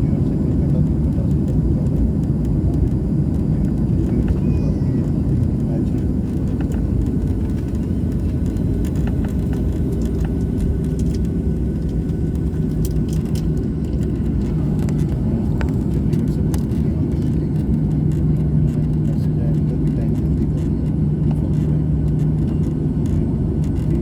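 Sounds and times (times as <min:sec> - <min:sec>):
jet engine cabin rumble: 0:00.0 - 0:24.0
low hum: 0:00.0 - 0:24.0.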